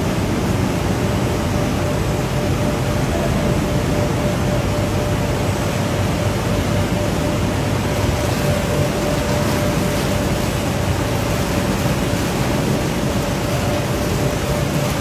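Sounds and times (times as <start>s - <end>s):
constant hum: 0.0s - 15.0s
production line machinery running: 0.0s - 15.0s.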